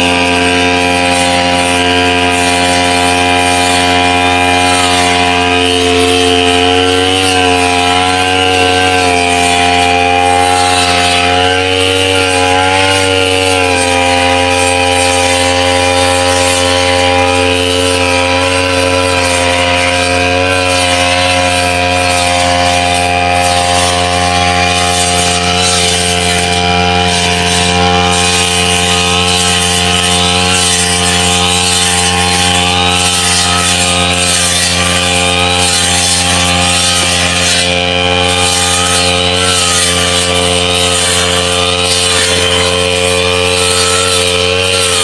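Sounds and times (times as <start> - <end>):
brush cutter engine running: 0.0 - 45.0
cutting head mowing wet grass: 0.0 - 45.0.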